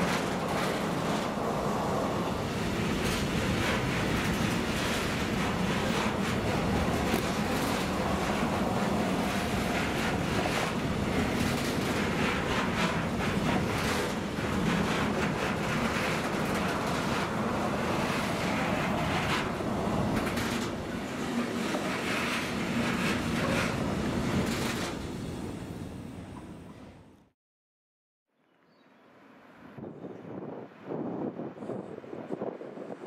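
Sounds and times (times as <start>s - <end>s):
freight train wagons passing: 0.0s - 27.1s
steel wheels on rails: 0.0s - 27.1s.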